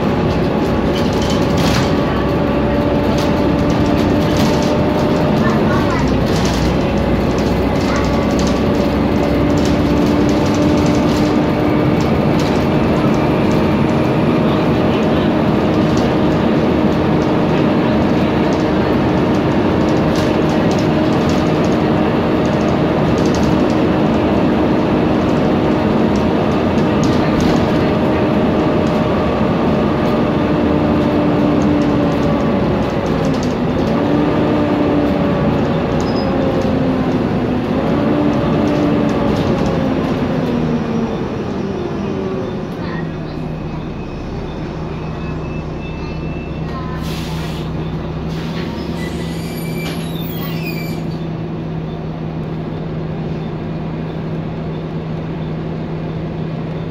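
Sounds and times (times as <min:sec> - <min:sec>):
engine and road noise: 0:00.0 - 0:56.9.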